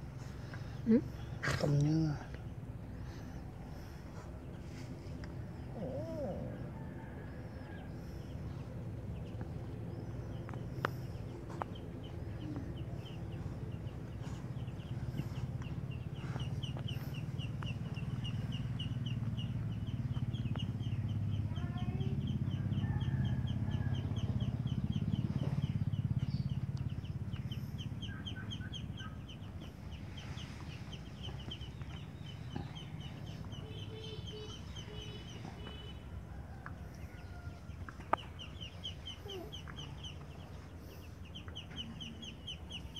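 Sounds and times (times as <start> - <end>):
birds chirping trill: 0.0 - 42.9
low steady rumble: 0.0 - 42.9.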